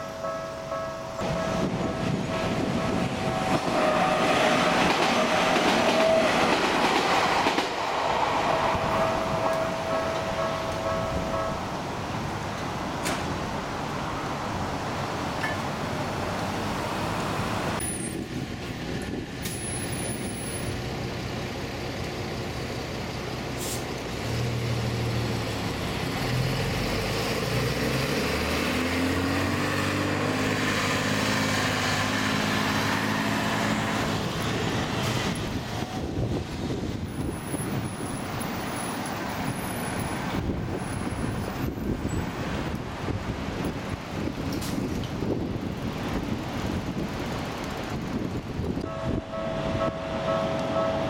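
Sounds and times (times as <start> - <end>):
street traffic: 0.0 - 51.0
bus engine passing: 1.2 - 51.0.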